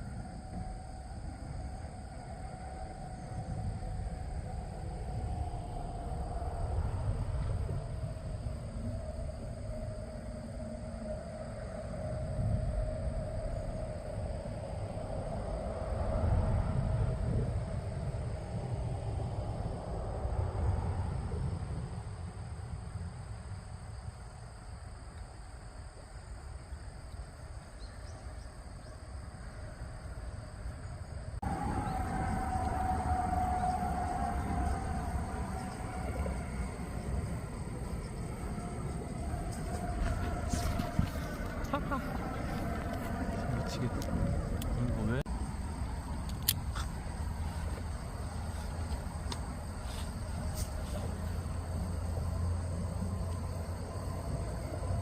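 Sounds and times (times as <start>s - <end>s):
steady low rumbling: 0.0s - 24.5s, 30.1s - 55.0s
faint insect chirring: 0.0s - 55.0s.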